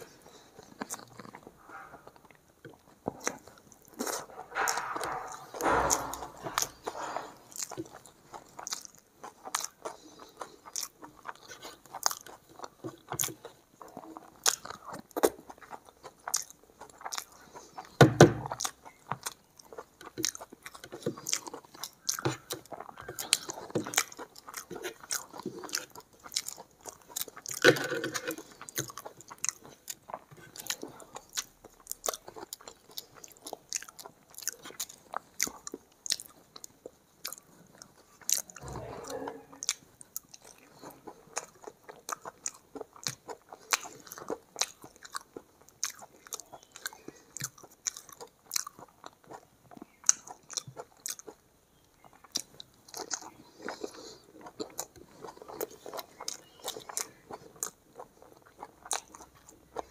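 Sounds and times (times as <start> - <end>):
wet chewing and lip smacks: 0.0 - 59.9.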